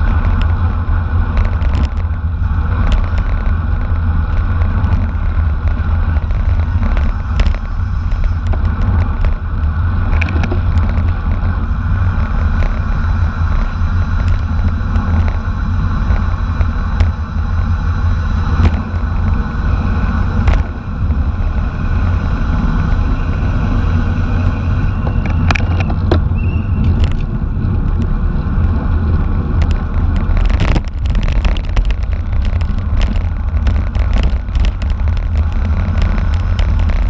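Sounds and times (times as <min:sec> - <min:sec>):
rapid clicks and rattles: 0:00.0 - 0:17.7, 0:25.0 - 0:37.0
road noise: 0:00.0 - 0:37.0
wind buffeting microphone: 0:00.0 - 0:37.0.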